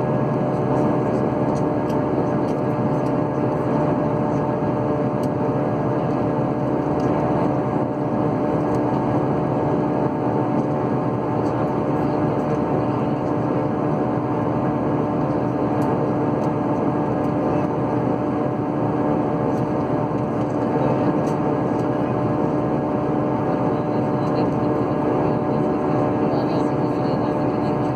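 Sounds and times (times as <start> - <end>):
aircraft cabin drone: 0.0 - 27.9.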